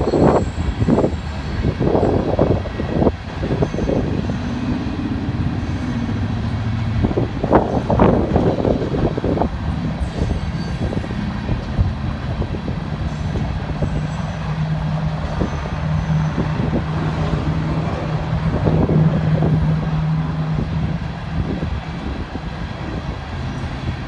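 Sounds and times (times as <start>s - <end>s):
heavy engine humming: 0.0s - 24.0s.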